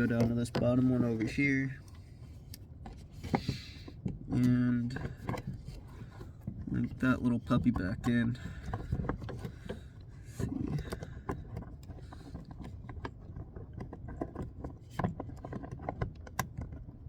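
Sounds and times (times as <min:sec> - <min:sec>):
hands scraping and rubbing plastic: 0:00.0 - 0:17.0.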